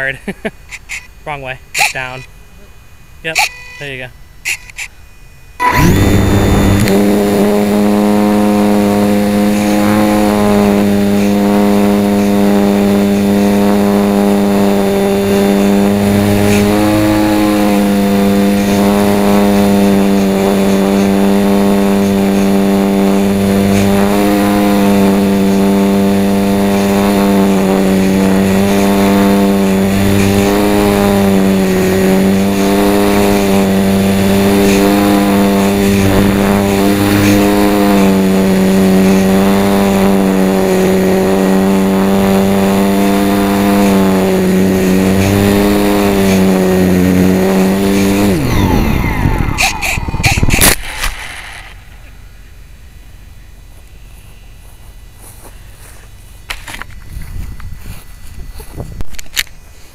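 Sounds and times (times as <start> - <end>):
small electric motor and propeller whining: 0.0 - 59.9.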